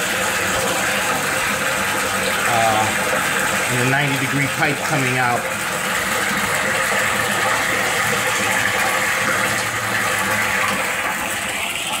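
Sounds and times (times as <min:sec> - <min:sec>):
water churning in a pit: 0:00.0 - 0:12.0.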